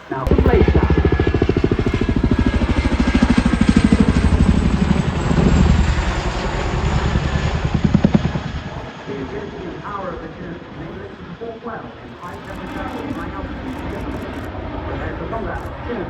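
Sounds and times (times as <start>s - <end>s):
helicopter rotor blades beating: 0.0s - 16.0s.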